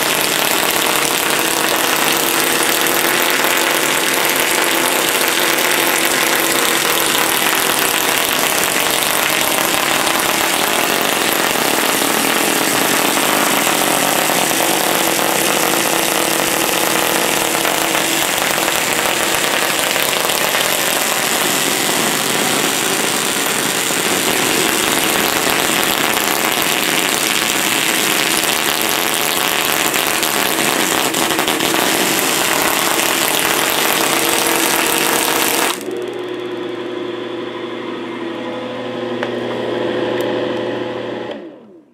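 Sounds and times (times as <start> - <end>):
electric arc crackling buzz: 0.0 - 35.9.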